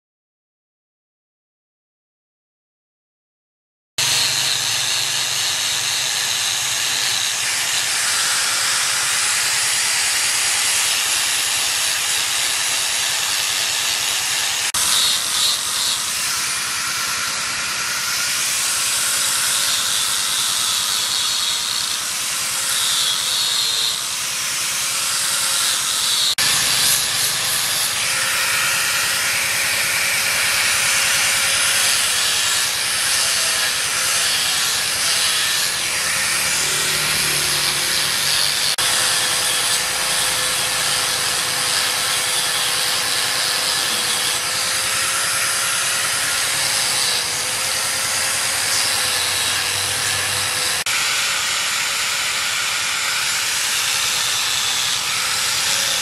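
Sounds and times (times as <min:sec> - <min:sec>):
angle grinder sanding wood: 0:04.0 - 0:56.0.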